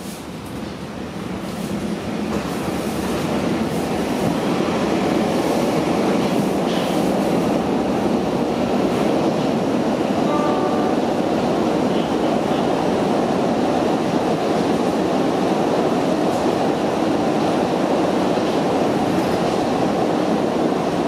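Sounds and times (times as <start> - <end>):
subway train wheels rumbling on rails: 0.0 - 21.0.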